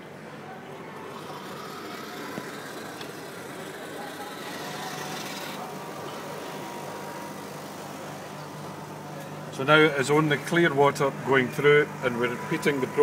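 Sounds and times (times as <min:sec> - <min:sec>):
coffee machine pump humming: 0:00.7 - 0:13.0.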